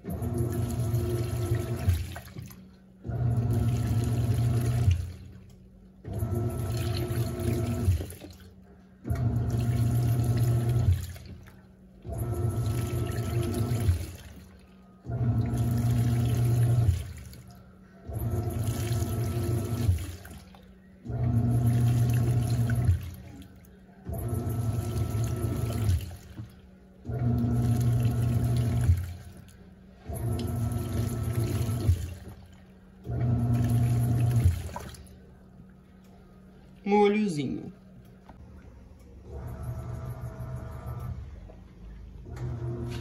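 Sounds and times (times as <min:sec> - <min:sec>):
water sloshing: 0:00.0 - 0:36.8
washing machine motor humming: 0:00.0 - 0:43.0.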